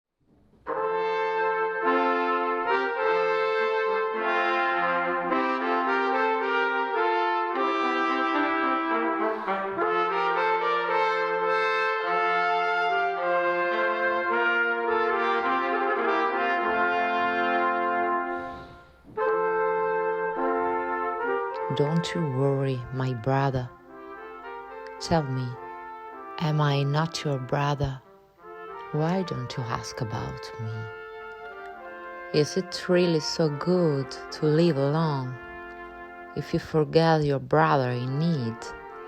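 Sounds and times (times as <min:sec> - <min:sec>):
instrumental ensemble chords: 0:00.7 - 0:32.4, 0:33.1 - 0:36.4.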